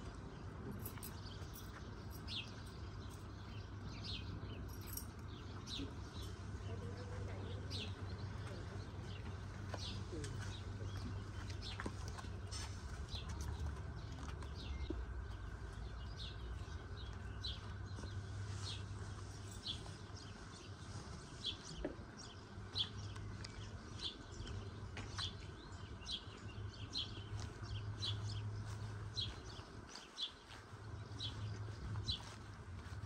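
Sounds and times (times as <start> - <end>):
birds chirping: 0.0 - 33.0
steady low hum: 0.0 - 33.0.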